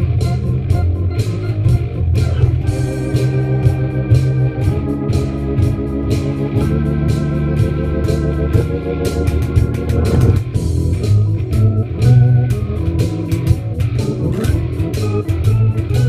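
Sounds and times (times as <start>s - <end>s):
bass line: 0.0s - 16.0s
drum and cymbal beat: 0.0s - 16.0s
organ chords: 0.0s - 16.0s.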